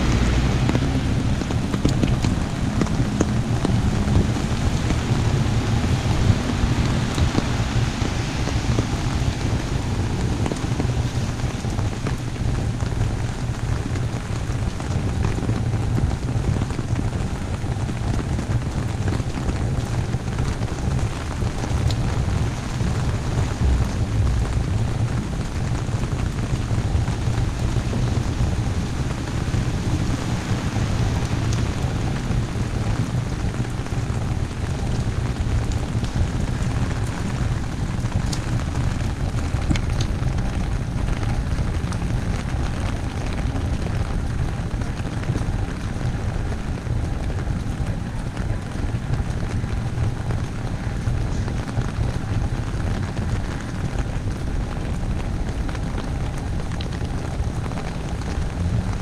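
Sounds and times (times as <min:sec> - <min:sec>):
heavy rain on an umbrella: 0:00.0 - 0:59.0
low rumble: 0:00.0 - 0:59.0.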